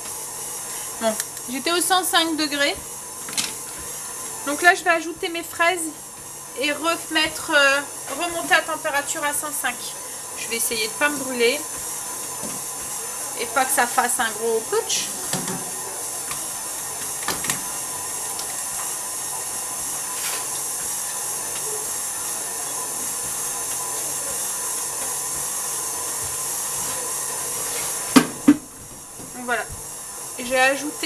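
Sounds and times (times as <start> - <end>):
sugar syrup boiling and hissing: 0.0 - 31.0.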